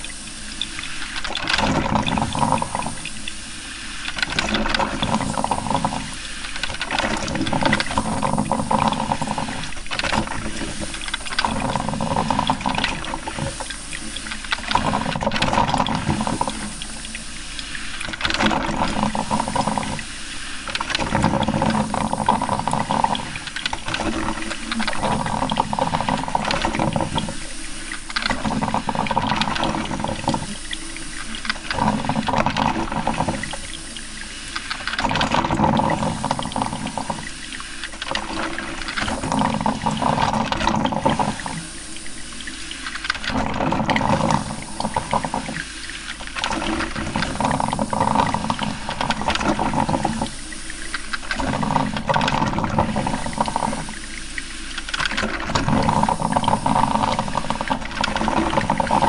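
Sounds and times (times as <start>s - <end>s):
coffee maker gurgling: 0.0s - 59.0s.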